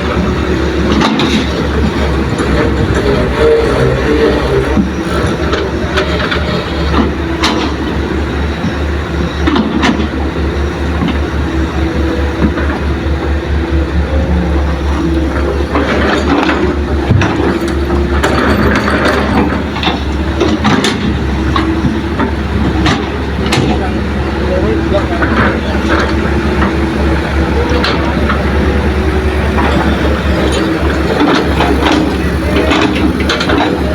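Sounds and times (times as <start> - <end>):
diesel machinery rumbling: 0.0 - 33.9.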